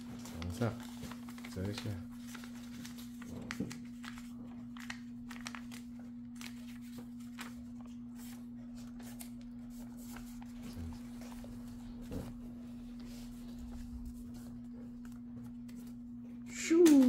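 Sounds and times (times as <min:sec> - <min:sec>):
paper crinkling and rustling: 0:00.0 - 0:16.1
steady low hum: 0:00.0 - 0:16.8.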